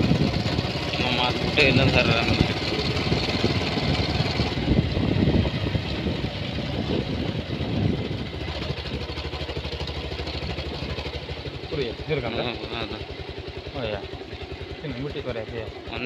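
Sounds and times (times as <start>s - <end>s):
road and wind noise: 0.0s - 14.7s
motorcycle engine running: 0.0s - 16.0s.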